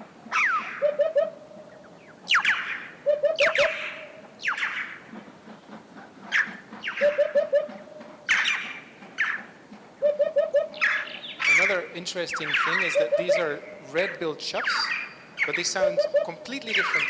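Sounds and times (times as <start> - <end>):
hoopoe hooting: 0.0 - 17.0
choughs calling harshly: 0.3 - 17.0.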